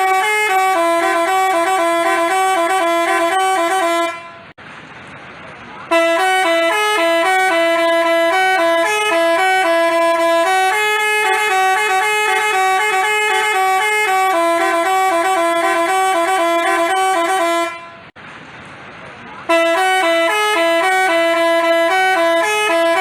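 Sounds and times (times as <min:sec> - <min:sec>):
multi-tone bus horn tune: 0:00.0 - 0:04.6, 0:05.9 - 0:18.2, 0:19.4 - 0:23.0.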